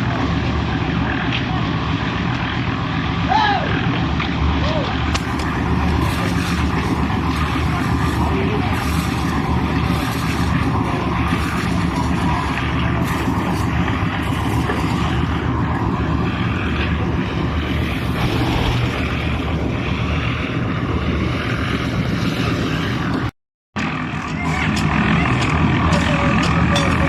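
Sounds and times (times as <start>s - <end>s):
machinery engine droning: 0.0s - 27.0s.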